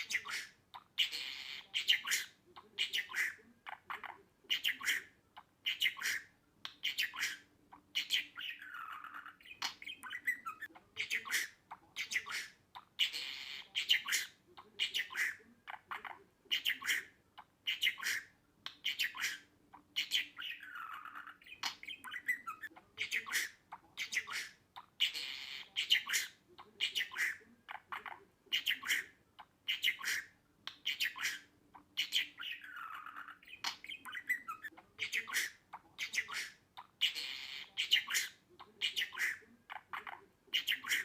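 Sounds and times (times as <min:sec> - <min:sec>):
budgerigar chirping and squawking: 0:00.0 - 0:41.0.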